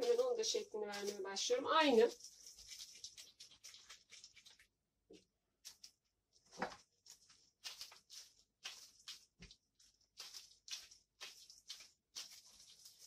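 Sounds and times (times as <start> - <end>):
disposable gloves rustling: 0.0 - 4.8, 5.7 - 13.0.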